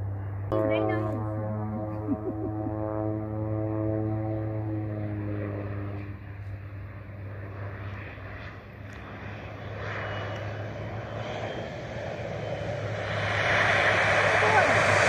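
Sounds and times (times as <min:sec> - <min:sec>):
propeller plane droning: 0:00.0 - 0:15.0.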